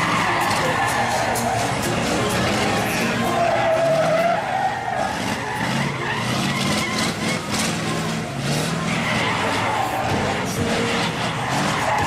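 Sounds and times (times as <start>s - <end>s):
diesel truck engine revving: 0.0s - 12.0s
tyres skidding and squealing: 0.0s - 12.0s.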